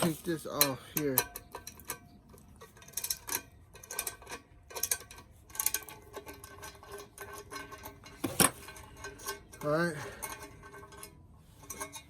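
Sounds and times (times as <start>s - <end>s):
wrench and bolt clinking: 0.0s - 12.0s.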